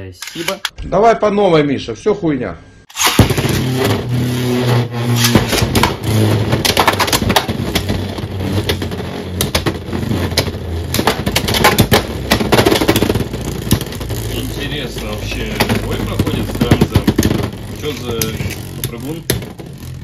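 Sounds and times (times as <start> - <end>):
spinning tops whirring: 2.9 - 20.0.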